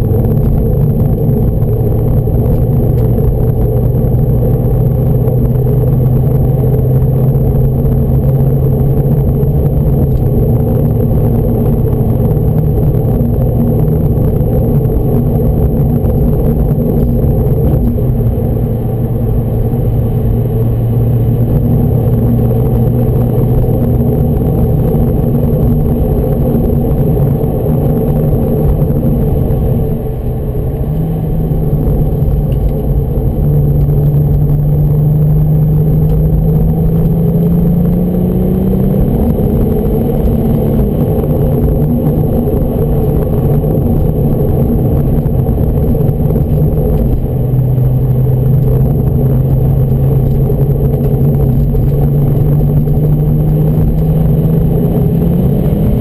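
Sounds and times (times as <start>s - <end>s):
car engine heard from cabin: 0.0s - 56.0s.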